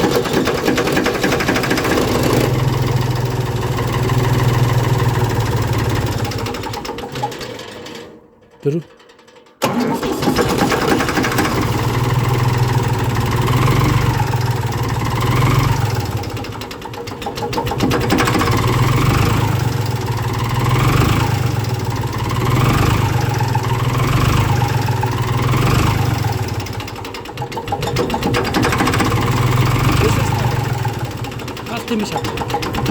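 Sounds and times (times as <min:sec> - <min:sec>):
engine starting and idling: 0:00.0 - 0:32.9.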